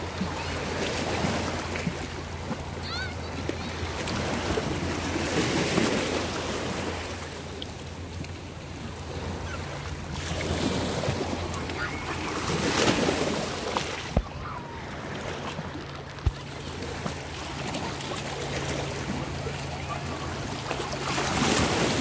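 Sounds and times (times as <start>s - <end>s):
waves lapping against rocks: 0.0s - 22.0s.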